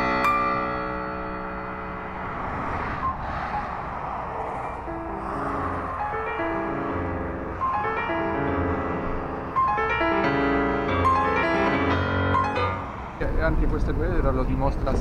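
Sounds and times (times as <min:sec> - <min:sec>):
piano music: 0:00.0 - 0:13.6.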